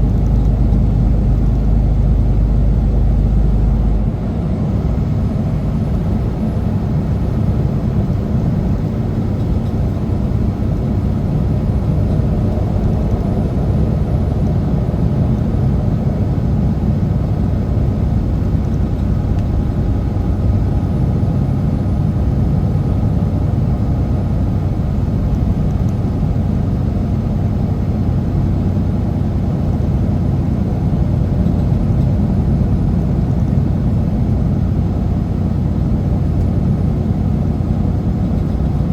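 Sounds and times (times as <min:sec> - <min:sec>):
road noise: 0:00.0 - 0:38.9
truck diesel engine droning: 0:00.0 - 0:38.9.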